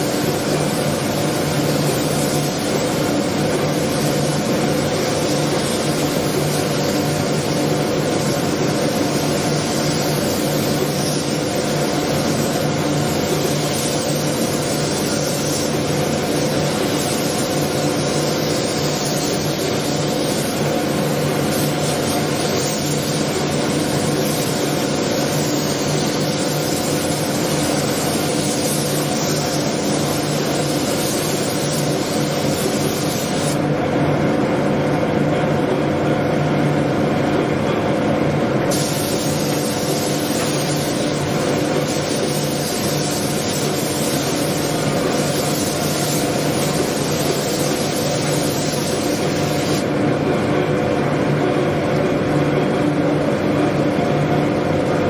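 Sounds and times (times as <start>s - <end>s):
ventilation machine hum with hiss: 0.0s - 55.0s.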